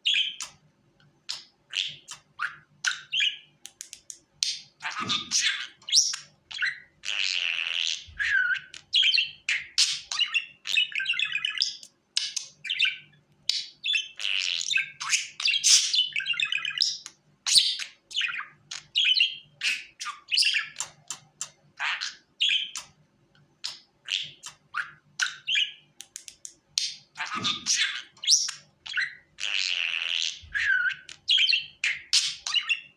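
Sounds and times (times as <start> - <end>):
budgerigars chirping and warbling: 0.1 - 0.6, 1.3 - 23.0, 23.6 - 32.9.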